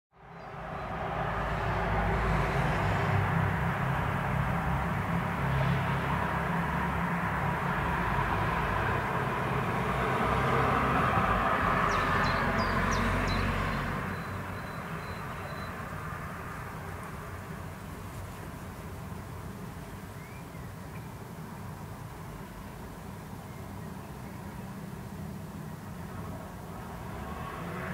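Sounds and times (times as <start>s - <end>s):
traffic rumble: 0.2s - 27.9s.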